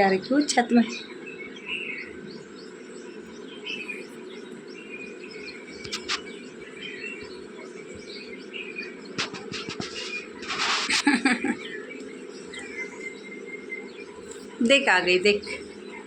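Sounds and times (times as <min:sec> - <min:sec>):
low background hum: 0:00.0 - 0:16.0
small birds chirping: 0:00.0 - 0:16.0.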